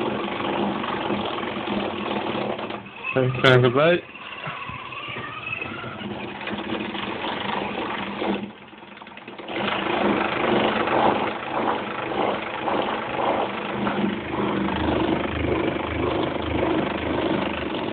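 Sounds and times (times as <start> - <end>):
small motor spinning: 0.0 - 17.9.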